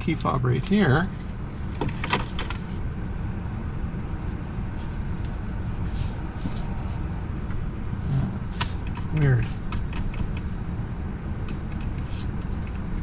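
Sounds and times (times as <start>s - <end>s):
vehicle cabin rumble: 0.0s - 13.0s.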